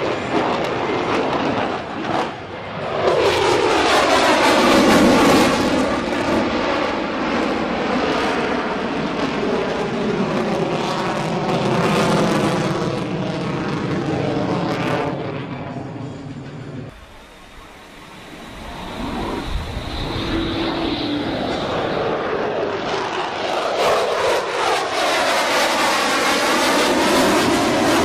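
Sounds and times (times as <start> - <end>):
jet fighter flying past: 0.0 - 28.0.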